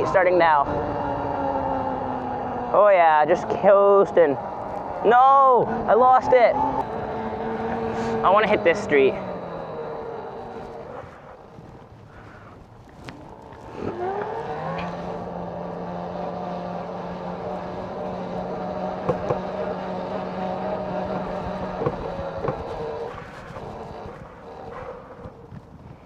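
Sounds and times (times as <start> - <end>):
electric bike motor whine: 0.0 - 26.0.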